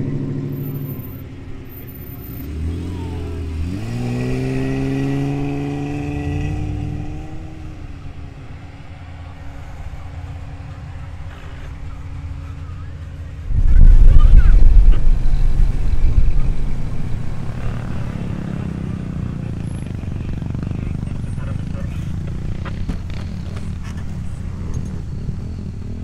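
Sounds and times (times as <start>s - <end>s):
off-road vehicle engine accelerating: 0.0s - 26.0s.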